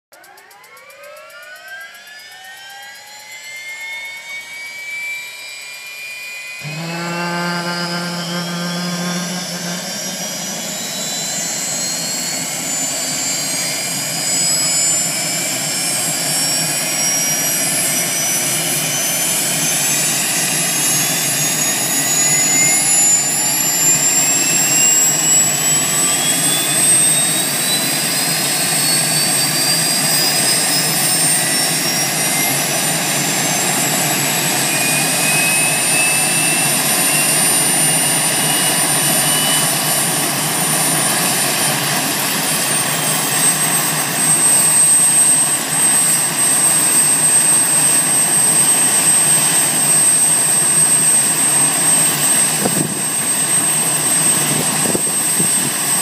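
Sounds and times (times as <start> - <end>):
helicopter turbine engine starting: 0.2 - 56.0.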